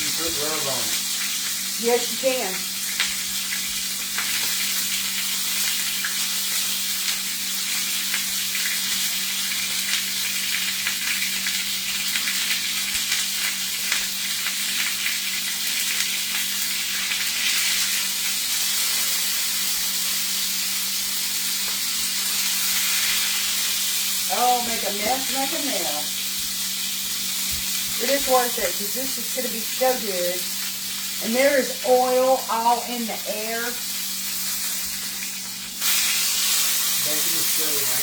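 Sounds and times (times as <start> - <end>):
meat sizzling in oil: 0.0 - 38.0.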